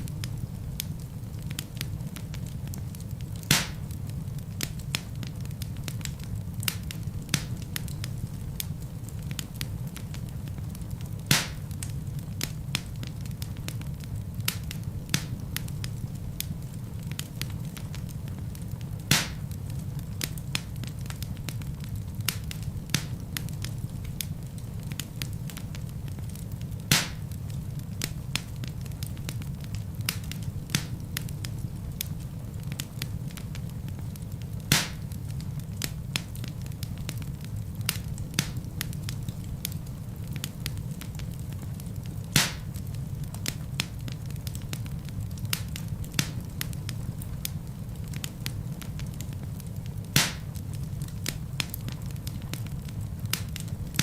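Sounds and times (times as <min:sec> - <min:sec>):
burning wood popping: 0:00.0 - 0:54.0
log fire crackling: 0:00.0 - 0:54.0.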